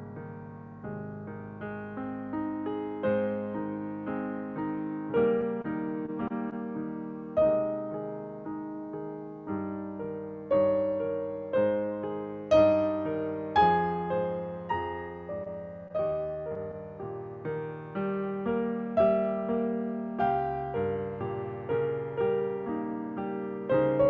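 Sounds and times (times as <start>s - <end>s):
slow gentle solo piano: 0.0s - 24.0s.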